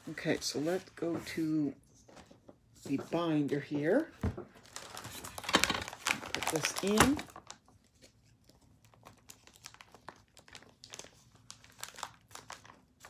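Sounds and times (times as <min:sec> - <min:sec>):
binder pages crinkling and rustling: 0:00.0 - 0:13.0.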